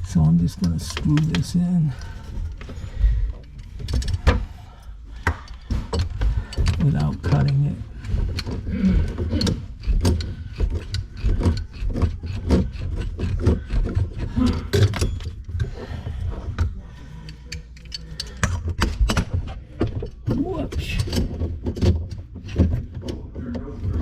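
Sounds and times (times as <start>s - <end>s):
metal fittings clicking and knocking: 0.0s - 2.8s, 5.2s - 15.6s, 16.6s - 23.6s.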